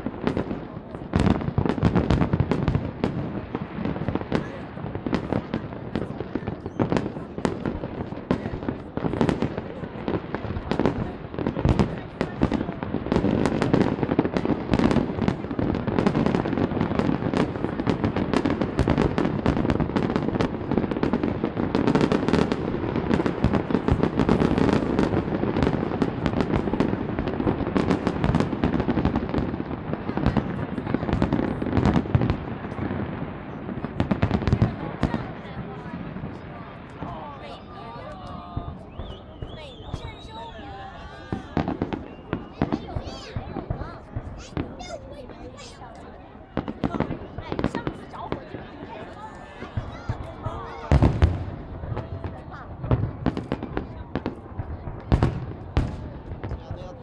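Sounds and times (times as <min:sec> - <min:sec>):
fireworks bursts bangs and crackles: 0:00.0 - 0:57.0.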